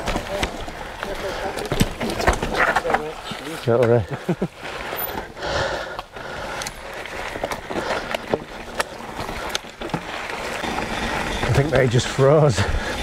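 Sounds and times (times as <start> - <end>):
bike knocking and rattling: 0.0 - 13.0
bike tyres on dirt trail: 0.0 - 13.0.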